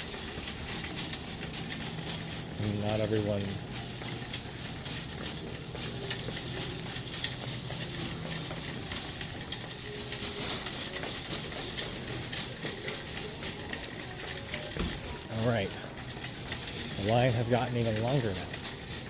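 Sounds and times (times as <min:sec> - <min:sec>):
clinks and rattles: 0:00.0 - 0:19.0
faint distant voices: 0:00.0 - 0:19.0.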